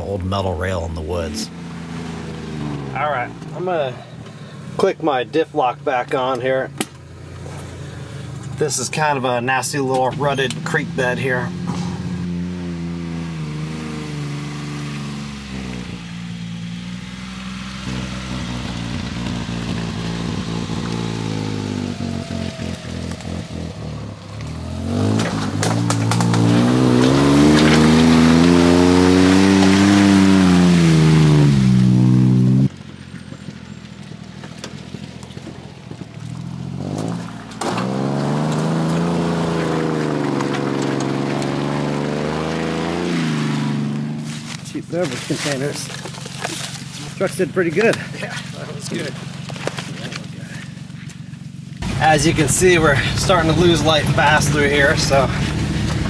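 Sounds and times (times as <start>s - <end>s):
small truck engine revving: 0.0s - 5.2s, 6.7s - 32.9s, 36.0s - 44.6s, 47.1s - 56.0s.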